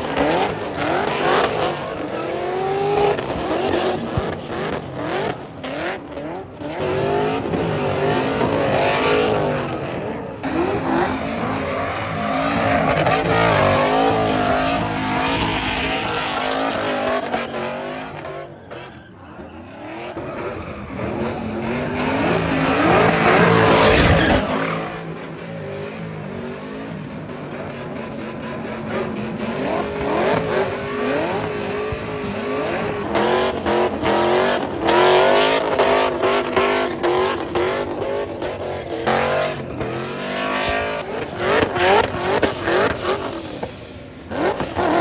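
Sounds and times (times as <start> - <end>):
vehicle engine revving: 0.0 - 45.0.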